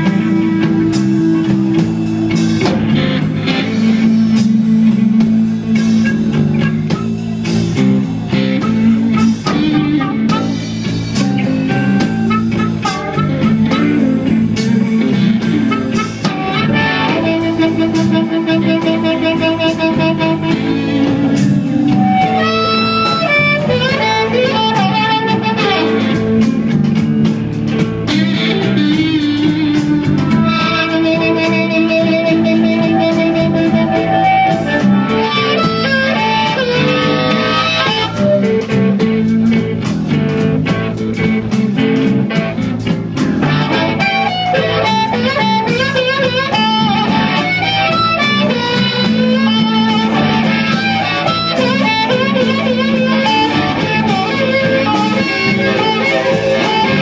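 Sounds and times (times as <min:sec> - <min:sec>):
harmonica solo: 0:00.0 - 0:39.5, 0:43.4 - 0:57.0
blues-rock band playing live: 0:00.0 - 0:57.0.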